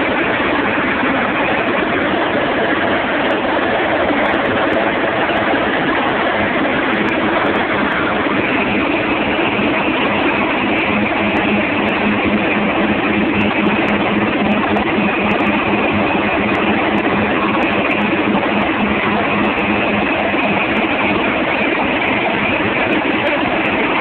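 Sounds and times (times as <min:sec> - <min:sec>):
boat engine running: 0:00.0 - 0:24.0
rush of churned water: 0:00.0 - 0:24.0.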